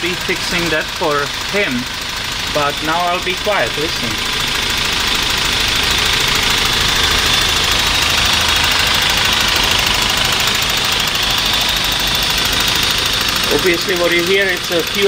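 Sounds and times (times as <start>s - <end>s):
car engine idling: 0.0s - 15.0s
fast even ticking: 0.0s - 15.0s.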